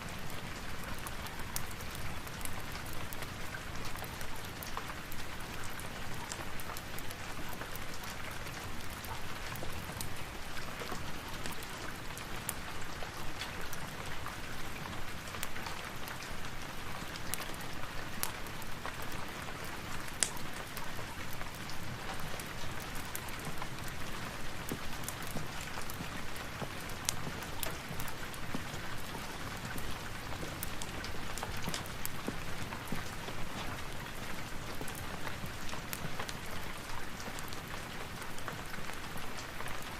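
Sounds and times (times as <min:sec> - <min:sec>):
steady rain: 0:00.0 - 0:39.9
fireplace fire crackling: 0:00.1 - 0:39.9.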